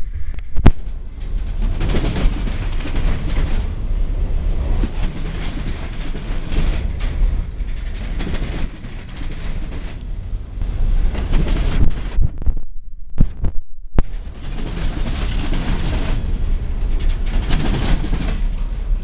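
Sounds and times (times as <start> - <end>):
train cars clanking: 0.0 - 12.4, 14.0 - 19.0
train wheels rumbling on rails: 0.0 - 19.0.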